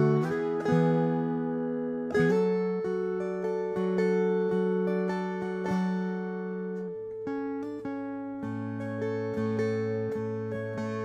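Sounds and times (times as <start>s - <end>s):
dulcimer fingerstyle melody: 0.0s - 11.0s.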